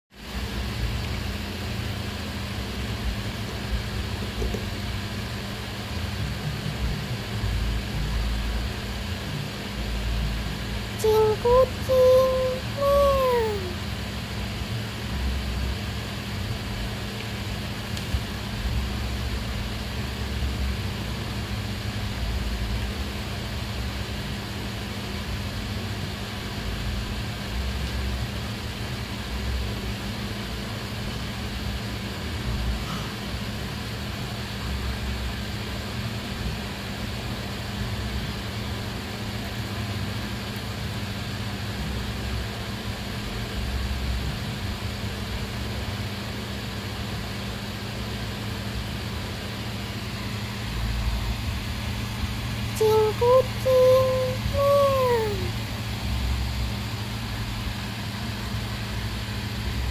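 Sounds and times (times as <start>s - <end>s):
motor humming steadily: 0.2s - 59.9s.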